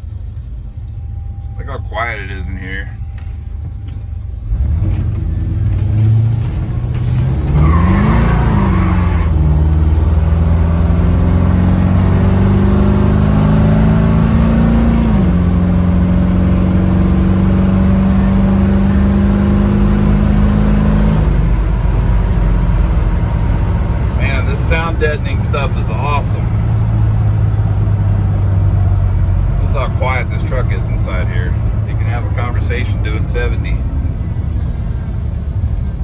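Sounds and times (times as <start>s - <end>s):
truck engine accelerating: 0.0s - 36.0s.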